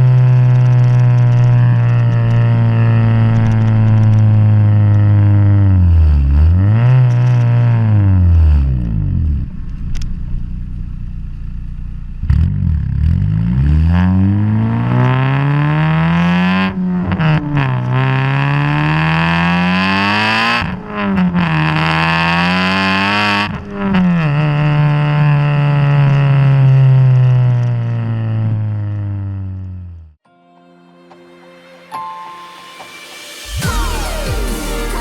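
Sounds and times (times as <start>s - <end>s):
car exhaust revving: 0.0s - 30.2s.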